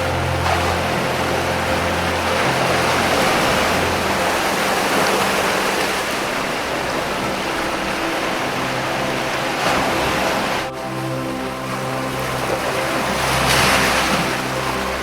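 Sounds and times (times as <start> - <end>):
ocean waves against rocks: 0.0 - 15.0.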